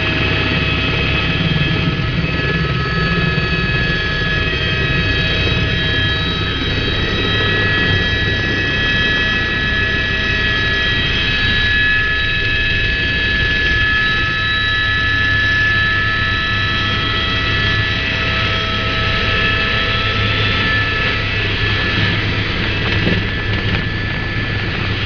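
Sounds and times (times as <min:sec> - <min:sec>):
helicopter rotor and engine rumble: 0:00.0 - 0:25.0
high turbine whine: 0:00.0 - 0:25.0.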